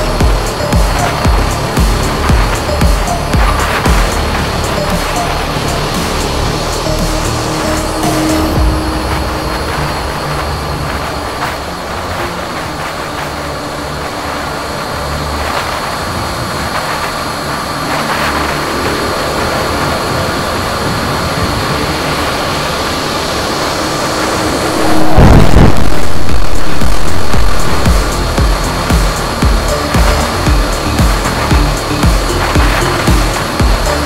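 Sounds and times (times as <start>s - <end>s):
fighter jets flying low: 0.0s - 34.0s.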